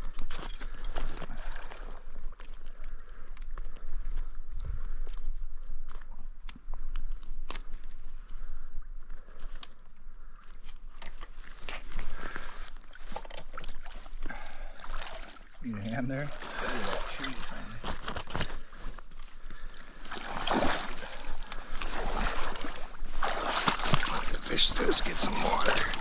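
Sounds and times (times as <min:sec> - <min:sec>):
hands handling fish in a net: 0:00.0 - 0:15.6, 0:16.3 - 0:26.0.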